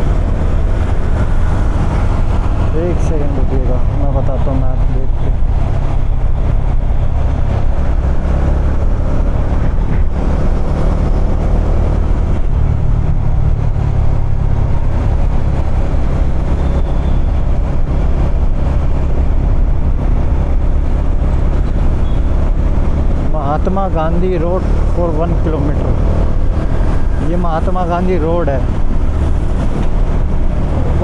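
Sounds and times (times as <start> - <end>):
motorcycle engine rumbling: 0.0 - 31.0.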